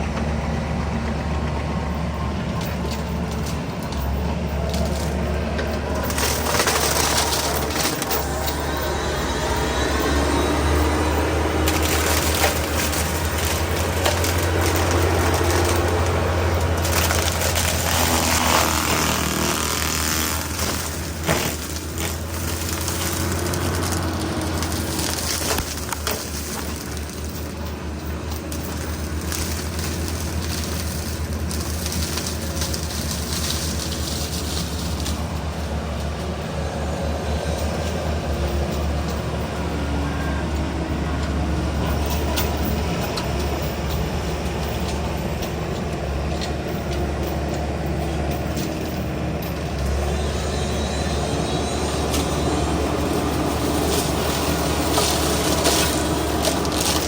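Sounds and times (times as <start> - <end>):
excavator engine hum: 0.0 - 57.0
mulcher drum spinning: 0.0 - 57.0
wood cracking and crushing: 2.5 - 37.0, 37.6 - 57.0.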